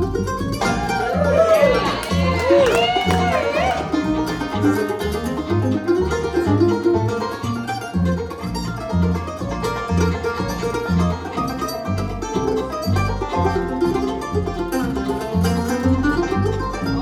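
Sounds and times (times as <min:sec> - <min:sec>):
bluegrass string-band music: 0:00.0 - 0:17.0.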